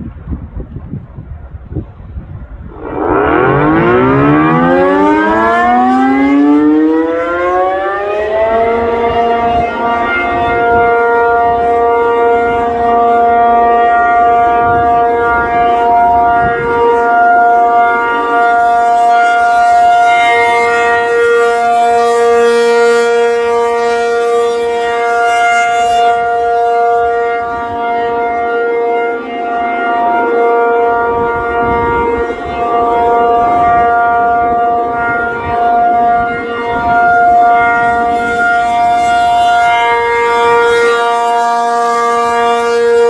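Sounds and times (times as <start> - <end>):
rotating tornado siren steady tone: 0.0 - 43.0.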